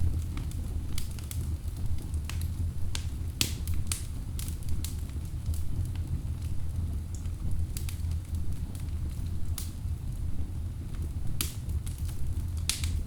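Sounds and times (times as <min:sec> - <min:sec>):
fire crackling and popping: 0:00.0 - 0:13.0
low rumble of flame: 0:00.0 - 0:13.0.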